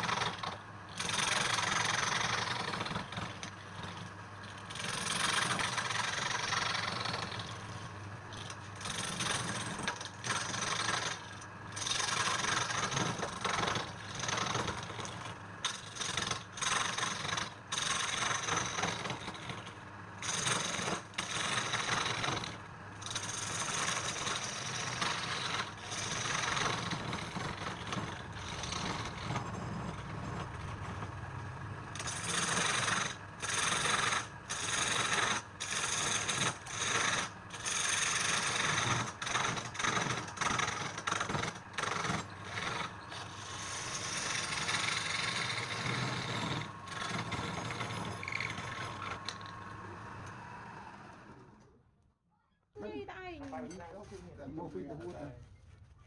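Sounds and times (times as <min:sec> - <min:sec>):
wood scraping on lathe tool: 0:00.0 - 0:51.3
lathe motor hum: 0:00.0 - 0:51.6.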